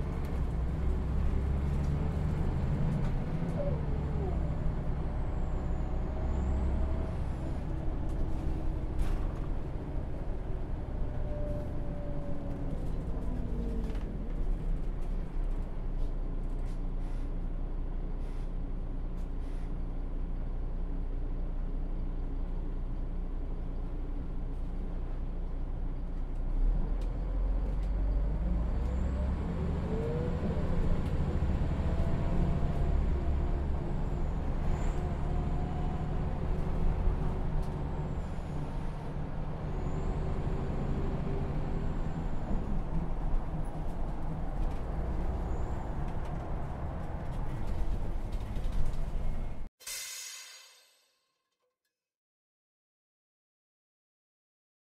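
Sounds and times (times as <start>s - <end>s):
bus engine droning: 0.0s - 49.7s.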